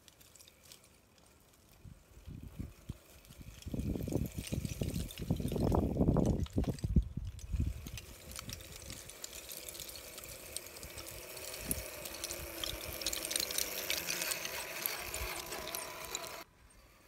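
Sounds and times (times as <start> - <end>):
toy truck motor whining: 2.0 - 17.0.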